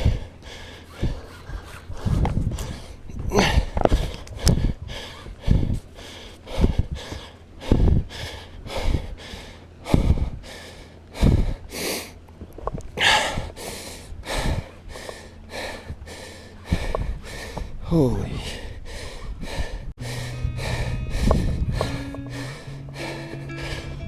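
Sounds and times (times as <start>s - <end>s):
man breathing hard: 0.0s - 12.2s, 13.0s - 24.0s.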